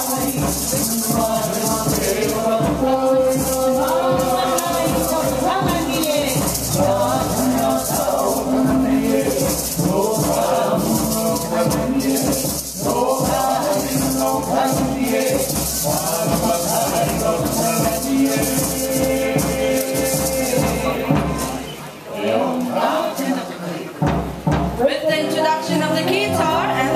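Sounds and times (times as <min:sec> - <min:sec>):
gourd rattles shaking: 0:00.0 - 0:21.6
person singing: 0:00.0 - 0:21.7.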